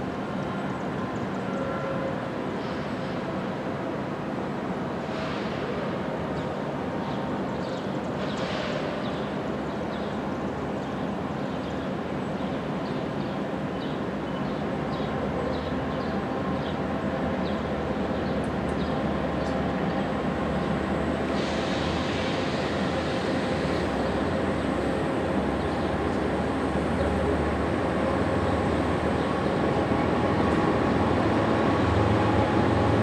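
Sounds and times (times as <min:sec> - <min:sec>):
city background noise: 0:00.0 - 0:33.0
diesel locomotive rumble: 0:00.0 - 0:33.0.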